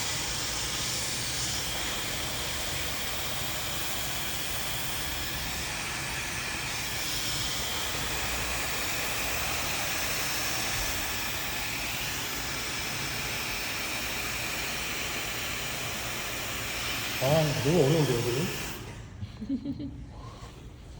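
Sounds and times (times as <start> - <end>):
hair dryer running: 0.0 - 19.8.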